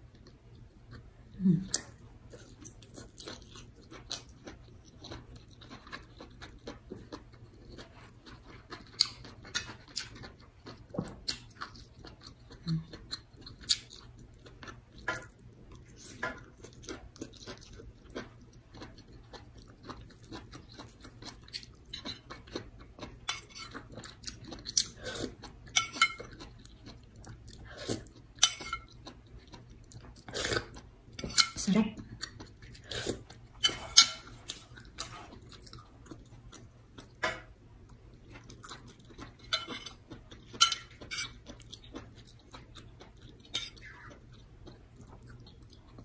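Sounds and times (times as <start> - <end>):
person chewing and smacking: 0.0 - 46.0.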